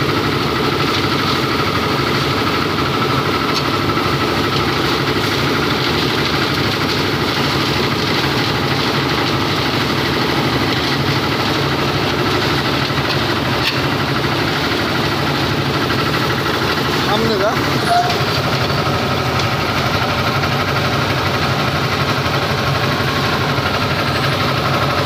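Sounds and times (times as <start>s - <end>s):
concrete mixer engine running: 0.0s - 25.0s.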